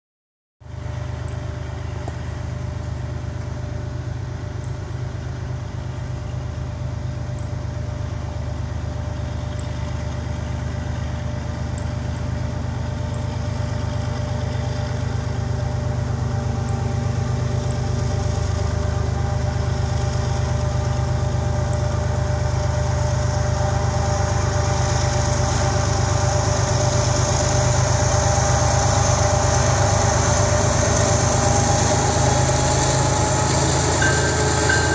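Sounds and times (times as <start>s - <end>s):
diesel locomotive engine rumble: 0.6s - 34.9s.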